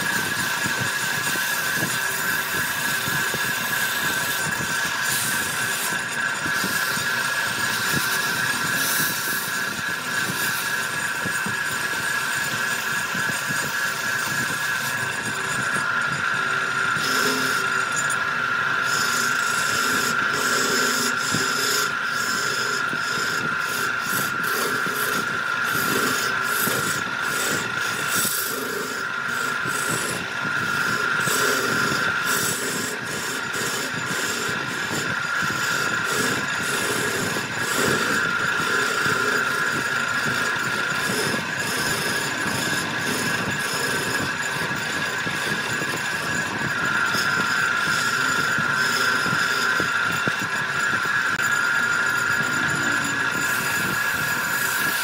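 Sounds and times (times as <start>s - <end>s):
tool scraping spinning wood: 0.0s - 55.0s
wood lathe whine: 0.0s - 55.0s.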